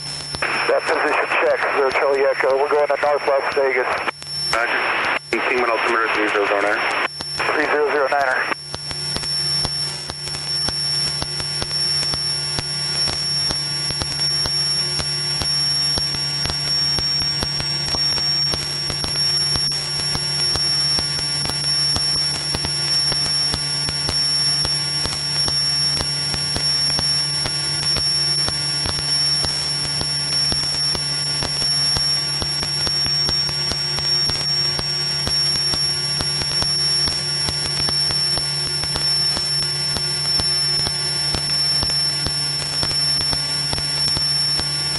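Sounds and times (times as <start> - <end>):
high-pitched whine: 0.0 - 44.9.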